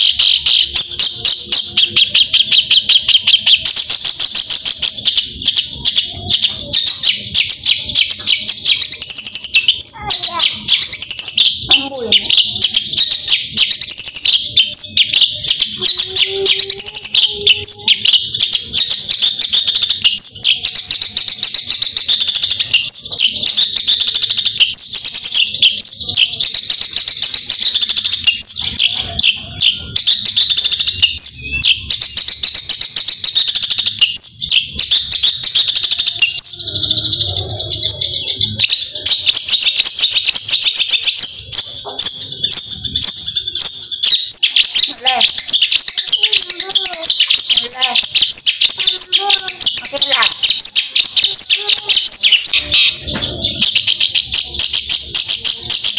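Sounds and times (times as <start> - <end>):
shrike singing chattering notes: 0.0 - 55.9.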